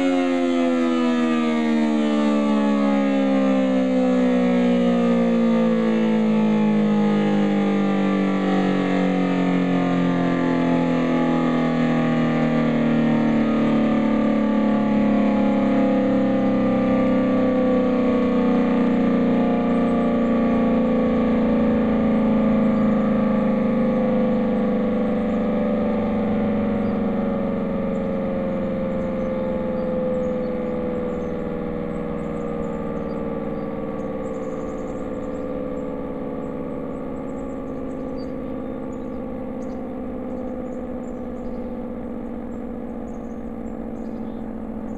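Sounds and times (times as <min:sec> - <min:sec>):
siren winding down: 0:00.0 - 0:44.9.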